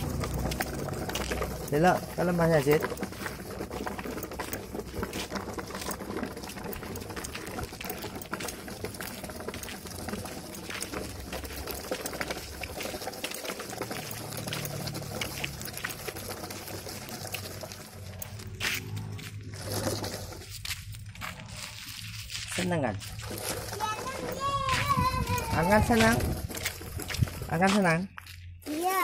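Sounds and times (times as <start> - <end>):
cardboard wheels crackling over gravel: 0.0 - 29.0.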